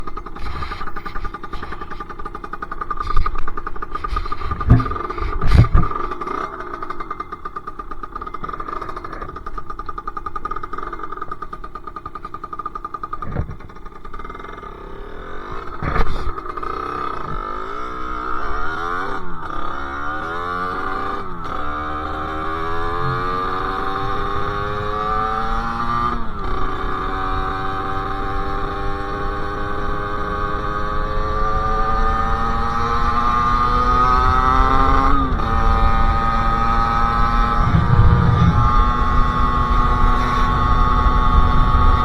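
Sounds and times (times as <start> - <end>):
two-stroke engine revving: 0.1 - 42.0.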